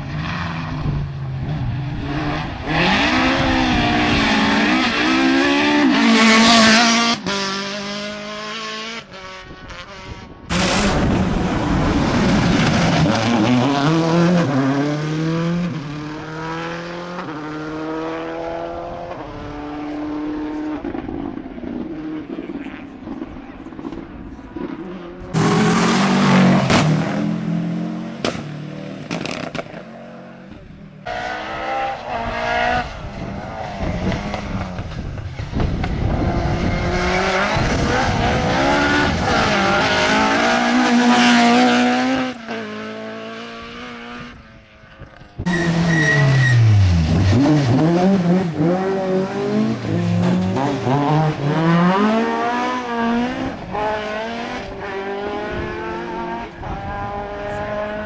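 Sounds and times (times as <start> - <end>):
rally cars racing past: 0.0 - 58.0.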